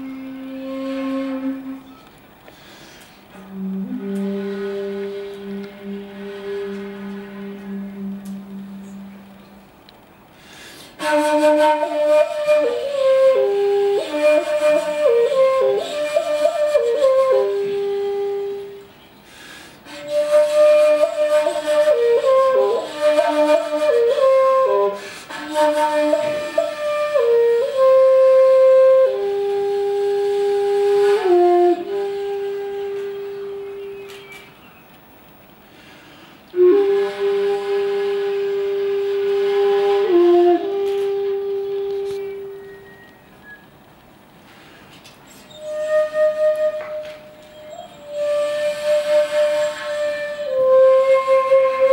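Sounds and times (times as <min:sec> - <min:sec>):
bamboo flute solo melody: 0:00.0 - 0:34.9, 0:36.5 - 0:43.9, 0:45.3 - 0:51.9.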